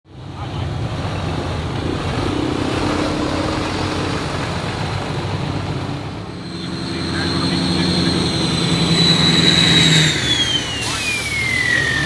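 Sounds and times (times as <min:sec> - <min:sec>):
diesel truck engine rumble: 0:00.1 - 0:12.0.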